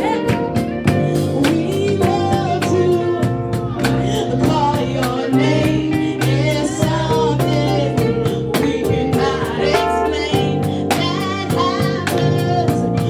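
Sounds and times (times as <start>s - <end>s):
band with guitar bass and drums: 0.0s - 13.0s
gospel singing: 0.0s - 13.0s.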